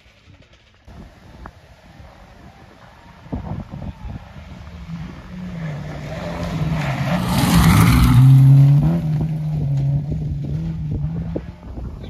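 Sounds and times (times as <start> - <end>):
rally car engine passing: 1.1 - 12.0.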